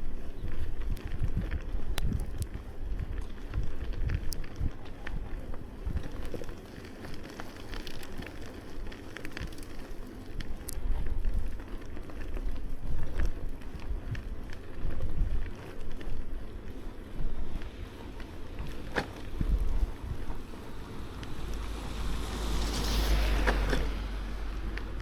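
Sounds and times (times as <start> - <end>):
bicycle clicks and rattles: 0.0 - 25.0
tyres crackling on snow: 0.0 - 25.0
wind buffeting microphone: 0.0 - 25.0.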